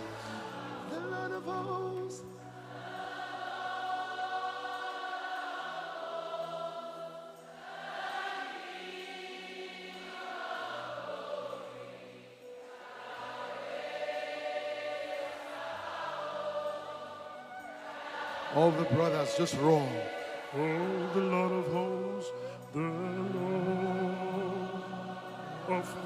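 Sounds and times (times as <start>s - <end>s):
low sustained instrumental notes: 0.0s - 26.0s
women singing a chant: 0.0s - 26.0s.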